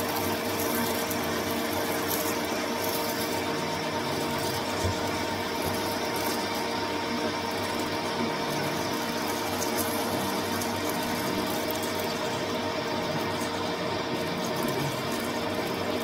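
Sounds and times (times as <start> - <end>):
metal lathe whining: 0.0 - 16.0.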